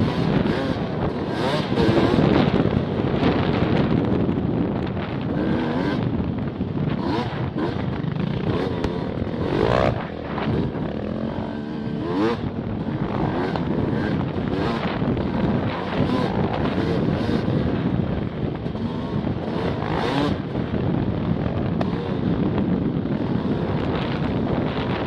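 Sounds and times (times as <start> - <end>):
motorcycle engine revving: 0.0 - 25.0
wind buffeting microphone: 0.0 - 25.0.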